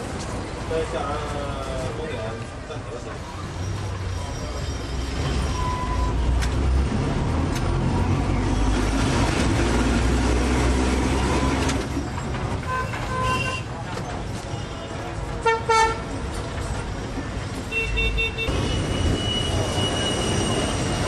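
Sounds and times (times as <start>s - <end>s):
electric tram rumbling: 0.0s - 21.0s.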